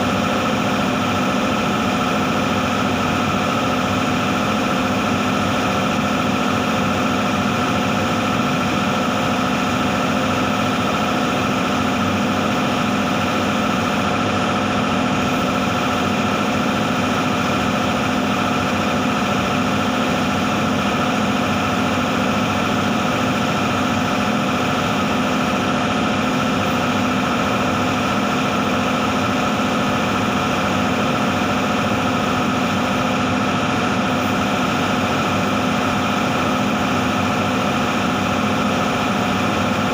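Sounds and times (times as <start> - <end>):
spray booth machinery hum: 0.0 - 39.9.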